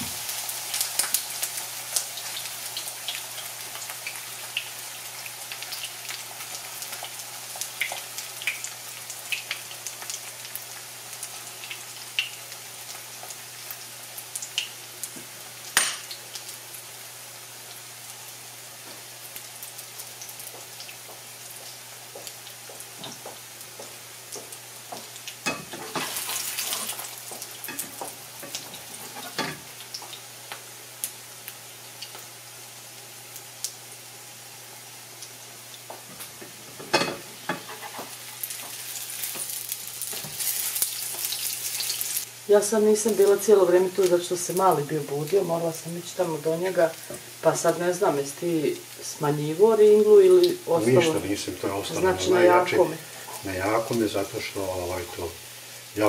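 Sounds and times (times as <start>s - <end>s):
batter sizzling in a frying pan: 0.0s - 56.0s.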